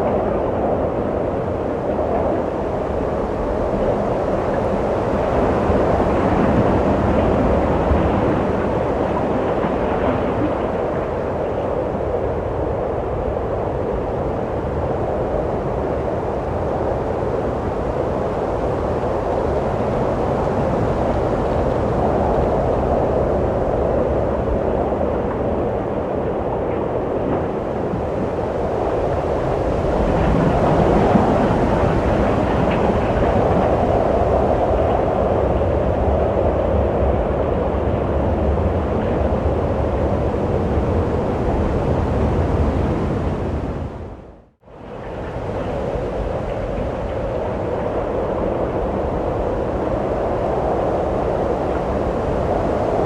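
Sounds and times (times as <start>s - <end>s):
wind blowing: 0.0s - 53.0s.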